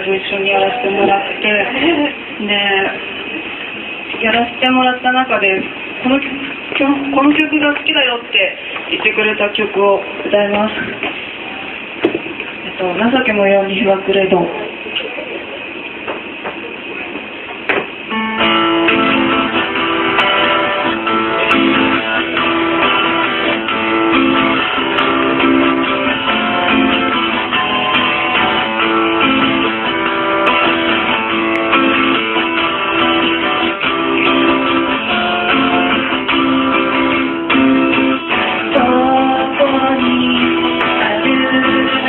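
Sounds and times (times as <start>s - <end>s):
acoustic guitar chords: 0.0s - 13.5s, 15.2s - 42.0s.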